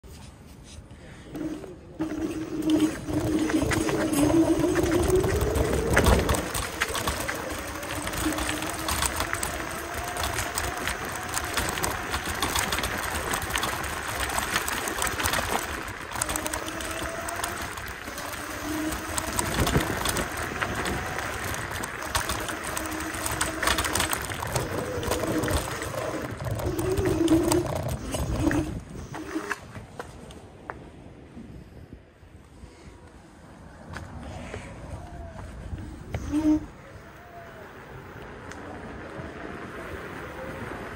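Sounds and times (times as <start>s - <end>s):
electric scooter motor whine: 1.3s - 30.0s, 33.6s - 40.9s
wheels rattling on cobblestones: 1.3s - 30.4s, 35.2s - 40.9s.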